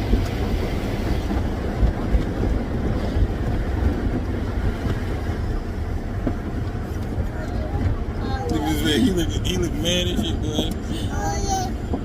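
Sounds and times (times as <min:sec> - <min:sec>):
car wash water rushing and rumbling: 0:00.0 - 0:12.0.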